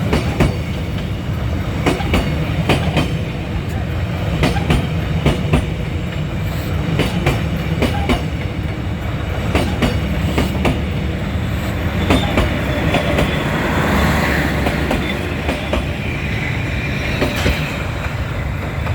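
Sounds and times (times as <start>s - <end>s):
passenger train rumbling past: 0.0s - 18.9s
train hissing: 0.0s - 18.9s
wheels clacking over rail joints: 0.0s - 18.9s.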